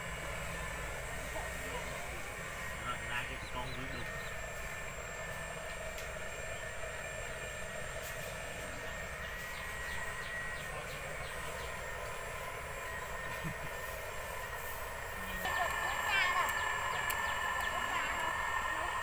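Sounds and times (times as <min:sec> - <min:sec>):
motor droning: 0:00.0 - 0:19.0.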